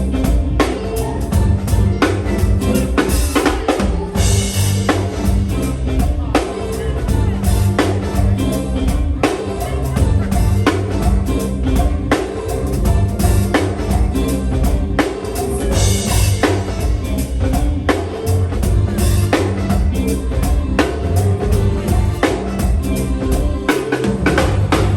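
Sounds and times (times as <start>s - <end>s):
heavy bass line: 0.0s - 24.9s
live band music: 0.0s - 24.9s.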